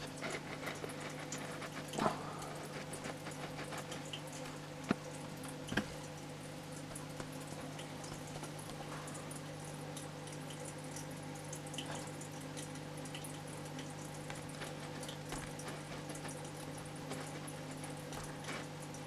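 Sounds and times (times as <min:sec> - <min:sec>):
small irregular ticks: 0:00.0 - 0:06.2, 0:06.8 - 0:19.0
aquarium filter hum: 0:00.0 - 0:19.0
water trickling and dripping: 0:00.0 - 0:19.0.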